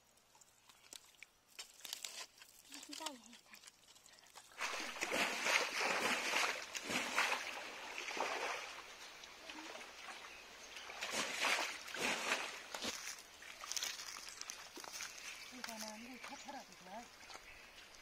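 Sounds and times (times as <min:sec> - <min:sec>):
water splashing: 0:02.6 - 0:18.0.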